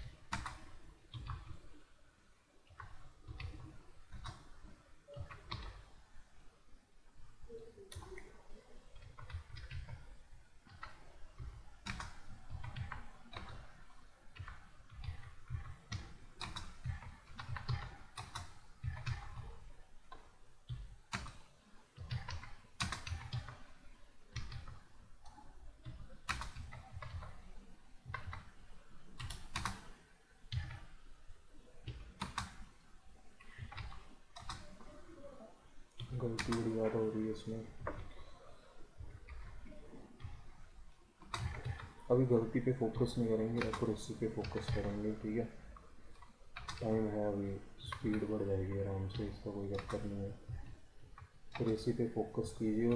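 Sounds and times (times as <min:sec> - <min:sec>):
computer keyboard typing: 0:00.0 - 0:01.6, 0:02.8 - 0:06.0, 0:07.9 - 0:21.4, 0:22.0 - 0:23.7, 0:24.3 - 0:27.5, 0:28.1 - 0:28.6, 0:29.2 - 0:29.9, 0:30.5 - 0:31.0, 0:31.8 - 0:32.6, 0:33.4 - 0:35.3, 0:35.9 - 0:40.6, 0:41.2 - 0:52.9.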